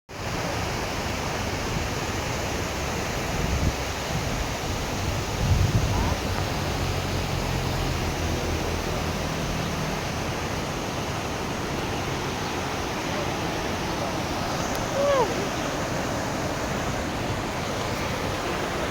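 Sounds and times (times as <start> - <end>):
water rushing: 0.1 - 18.9.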